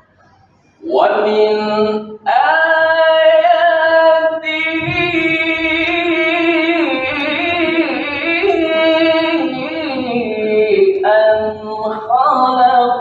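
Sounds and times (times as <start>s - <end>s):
man reciting melodically: 0.8s - 13.0s.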